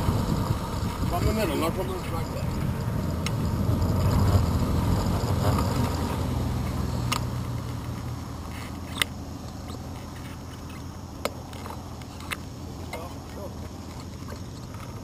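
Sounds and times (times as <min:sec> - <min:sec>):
pickup truck engine idling: 0:00.0 - 0:15.0
road and wind noise: 0:00.0 - 0:15.0.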